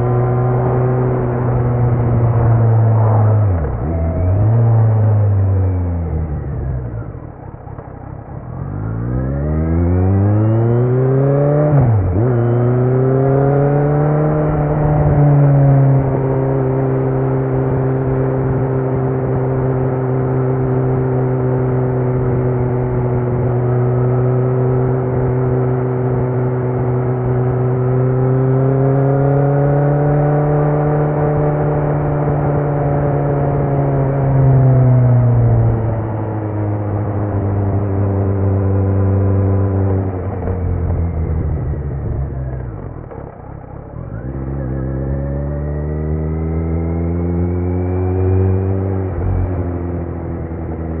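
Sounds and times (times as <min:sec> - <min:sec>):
motorcycle engine revving: 0:08.4 - 0:51.0.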